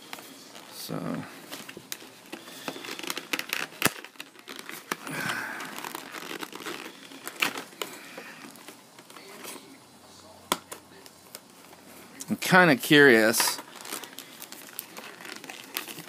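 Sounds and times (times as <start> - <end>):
plastic packaging crinkling: 0.0 - 9.7, 10.6 - 16.0.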